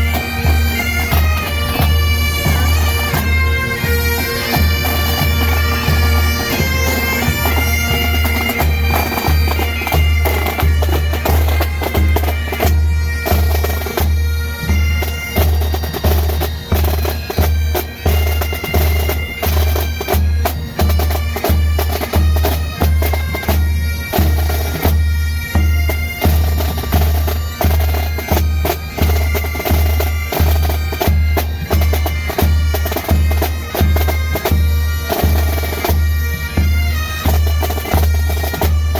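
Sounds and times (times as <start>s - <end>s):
bagpipes playing melody: 0.0s - 38.9s.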